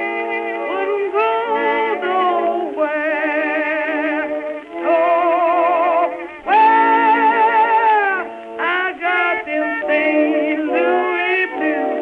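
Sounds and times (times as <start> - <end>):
wordless voice-like melody: 0.0 - 12.0.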